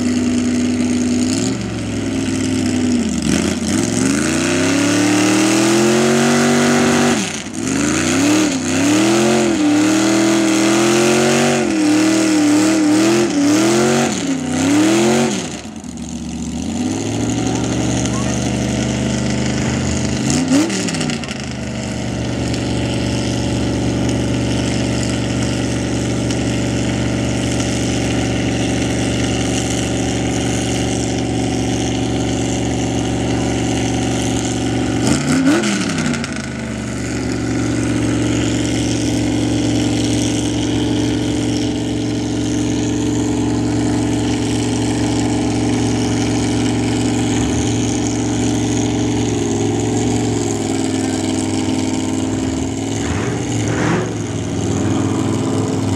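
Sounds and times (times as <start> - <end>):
truck engine idling and revving: 0.0 - 55.9.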